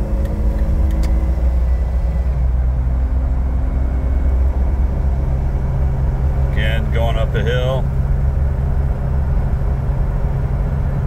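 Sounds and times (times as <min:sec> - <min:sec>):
car engine rumble from inside: 0:00.0 - 0:11.0.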